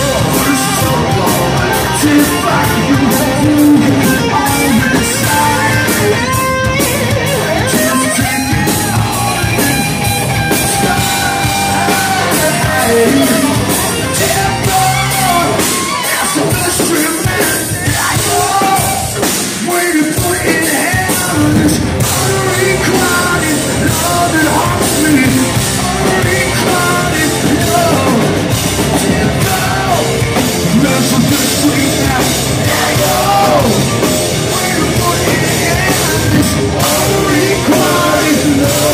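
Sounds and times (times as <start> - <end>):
hard rock band playing: 0.0 - 38.9
person shouting and singing: 0.0 - 38.9.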